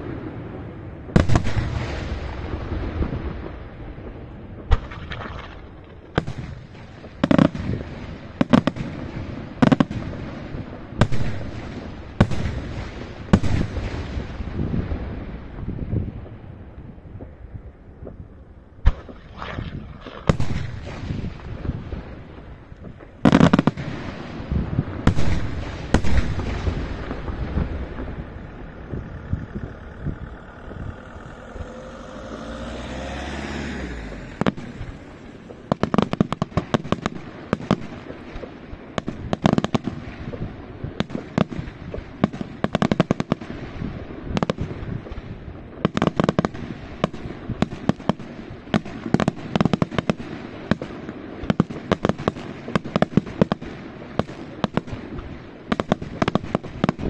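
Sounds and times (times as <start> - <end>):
crackling firework volleys: 0.0 - 57.0.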